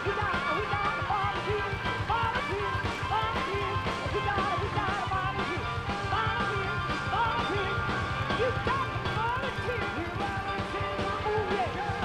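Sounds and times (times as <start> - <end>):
bass: 0.0 - 12.0
driving drums: 0.0 - 12.0.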